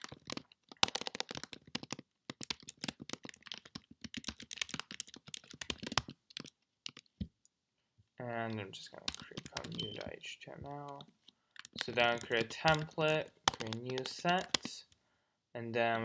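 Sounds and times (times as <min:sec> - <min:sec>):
fast typing on keyboard: 0:00.0 - 0:07.3, 0:08.5 - 0:14.8.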